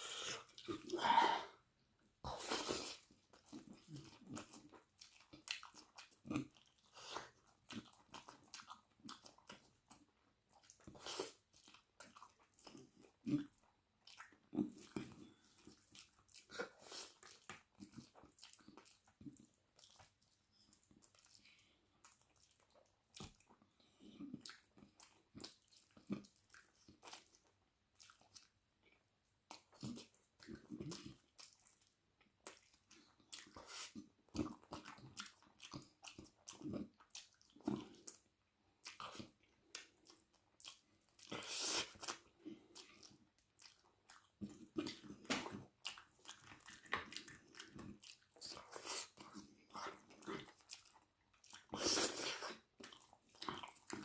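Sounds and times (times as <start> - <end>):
chewing and biting food: 2.3 - 54.0.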